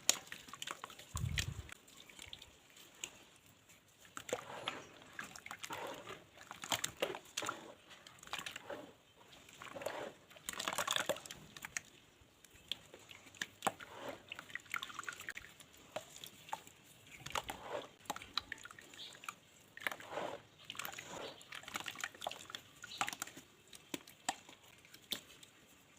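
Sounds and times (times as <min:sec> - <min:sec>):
wet mud squelching: 0:00.0 - 0:25.6.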